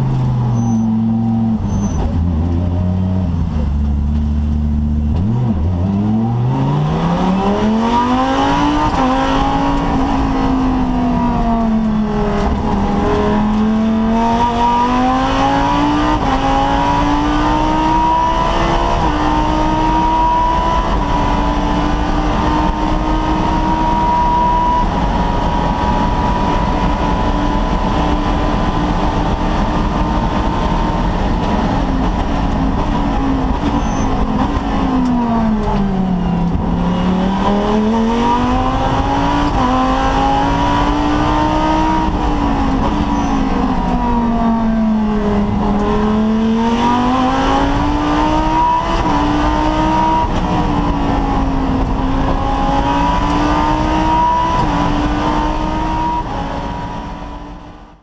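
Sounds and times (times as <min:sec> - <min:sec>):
race car engine from cockpit: 0:00.0 - 0:58.0.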